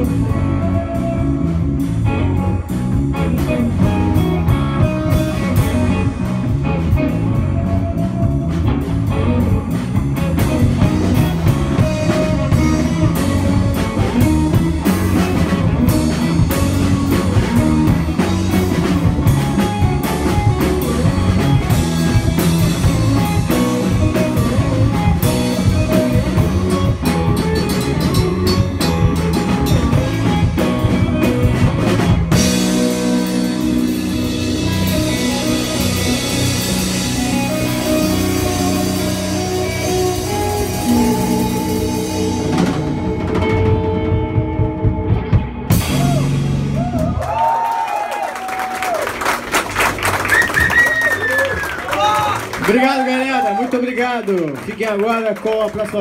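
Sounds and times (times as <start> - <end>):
drum kit beat: 0.0 - 47.8
electric guitar: 0.0 - 54.7
electric bass: 0.0 - 56.0.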